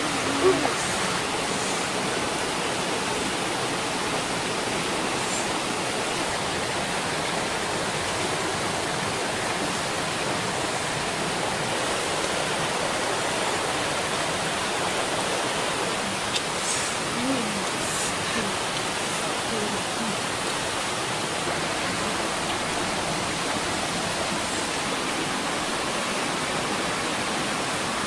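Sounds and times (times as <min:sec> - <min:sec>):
stream and small waterfall rushing: 0:00.0 - 0:28.0.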